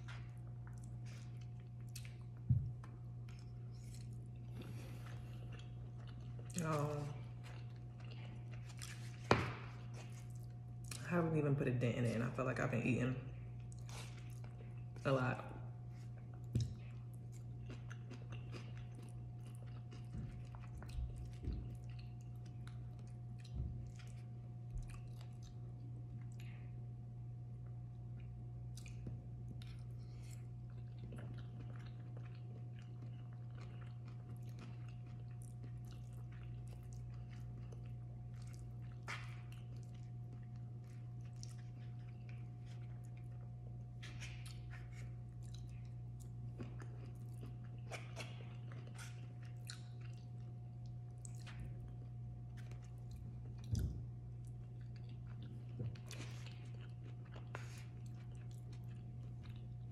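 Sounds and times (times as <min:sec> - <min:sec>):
close-up chewing: 0:00.0 - 0:11.0, 0:13.3 - 0:15.1, 0:15.8 - 0:59.9
steady low hum: 0:00.0 - 0:59.9.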